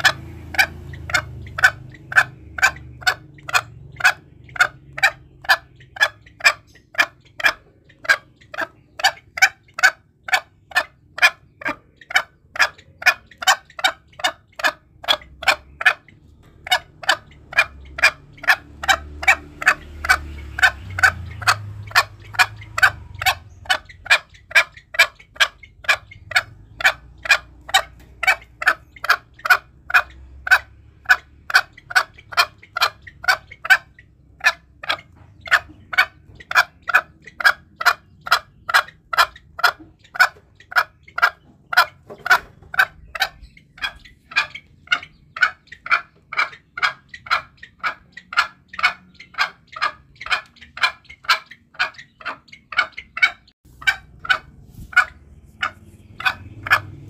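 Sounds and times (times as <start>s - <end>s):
junglefowl clucking: 0.0s - 57.0s.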